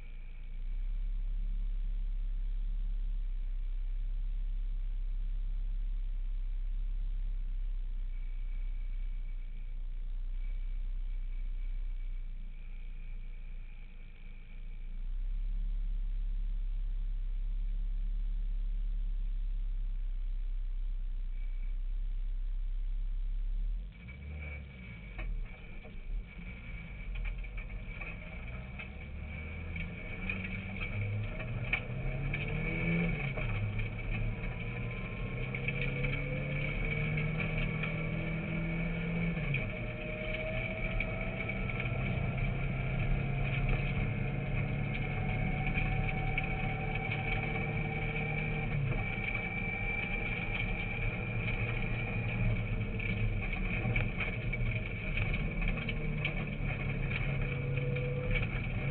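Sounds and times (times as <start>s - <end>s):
car engine accelerating: 0.0s - 58.9s
steady high whine: 0.0s - 58.9s.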